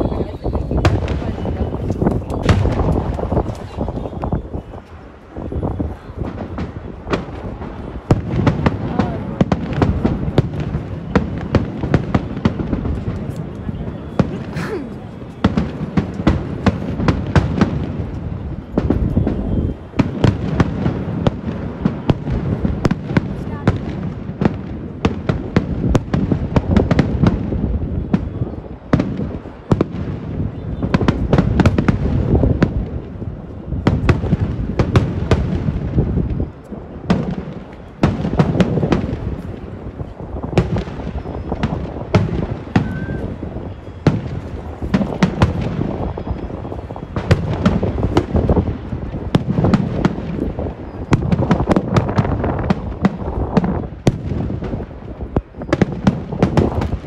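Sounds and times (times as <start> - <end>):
fireworks exploding: 0.0 - 57.0.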